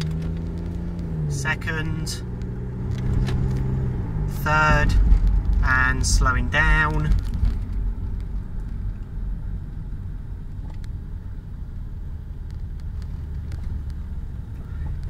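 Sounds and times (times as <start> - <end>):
car engine low rumble: 0.0 - 15.0
road noise: 0.0 - 15.0.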